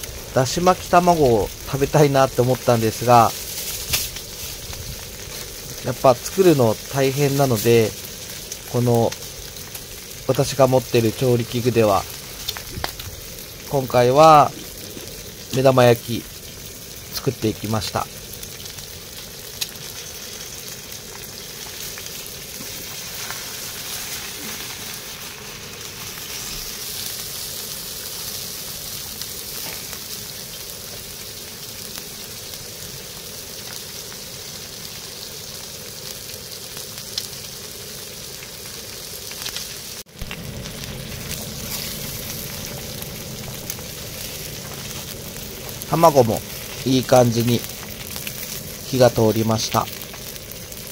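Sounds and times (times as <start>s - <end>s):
crackles and pops: 0.0s - 50.9s
eggs and fish sizzling on griddle: 0.0s - 50.9s.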